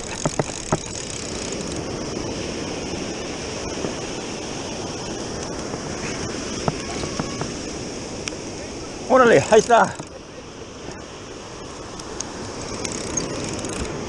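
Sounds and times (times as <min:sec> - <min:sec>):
surf washing on beach: 0:00.0 - 0:14.0
wind on microphone: 0:00.0 - 0:14.0.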